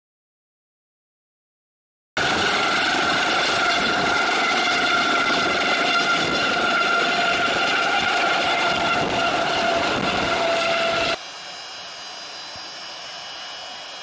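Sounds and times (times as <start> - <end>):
helicopter rotor rushing: 2.2 - 14.0
helicopter turbine whine: 2.2 - 14.0.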